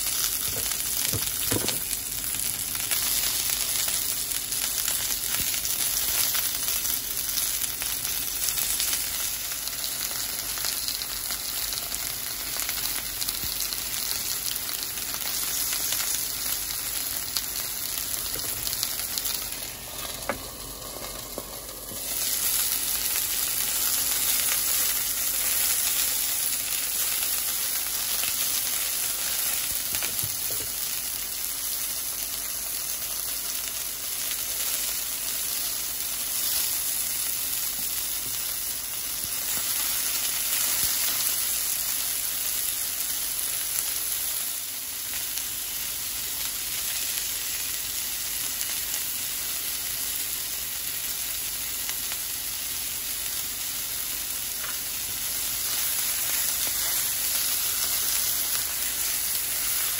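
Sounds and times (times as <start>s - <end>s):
chicken and broccoli sizzling in oil: 0.0s - 59.9s.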